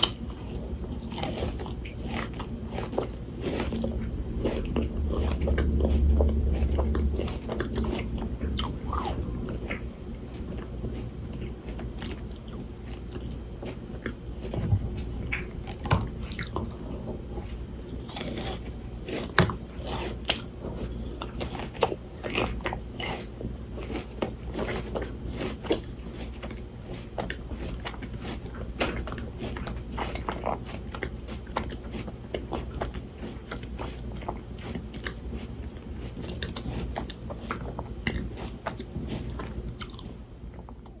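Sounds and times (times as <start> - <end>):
crunchy chewing of frozen grapes: 0.0 - 41.0.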